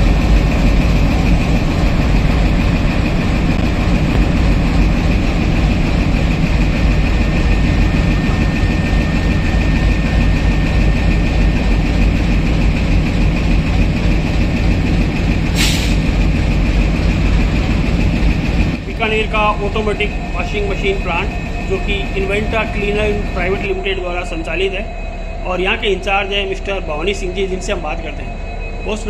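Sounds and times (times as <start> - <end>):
diesel engine rumble: 0.0 - 29.0
high engine whine: 0.0 - 29.0.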